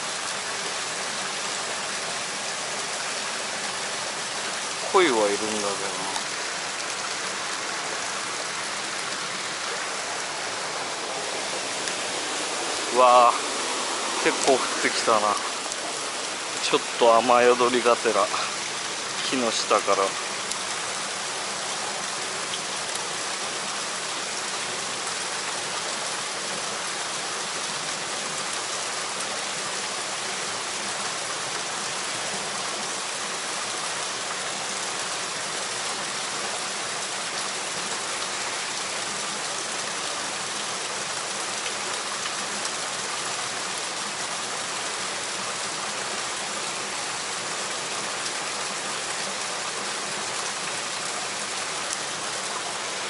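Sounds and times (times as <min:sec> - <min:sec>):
heavy rain on water: 0:00.0 - 0:53.0
stream rushing over rocks: 0:00.0 - 0:53.0.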